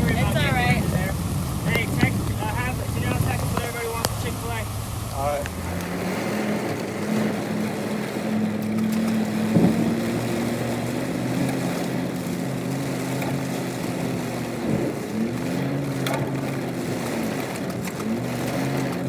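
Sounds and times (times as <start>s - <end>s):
loud vehicle jolt: 0.0s - 19.0s
off-road vehicle engine running: 0.0s - 19.0s.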